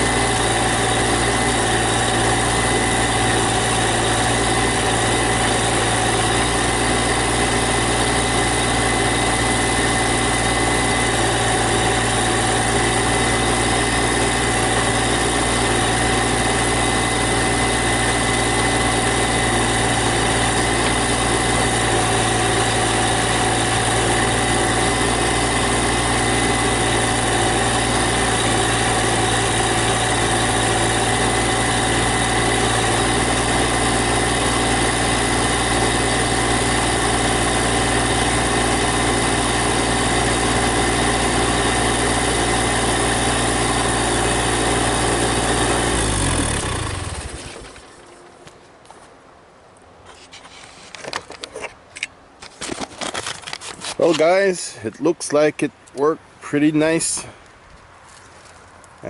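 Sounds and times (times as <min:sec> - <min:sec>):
tractor diesel engine droning: 0:00.0 - 0:48.5, 0:52.6 - 0:57.4.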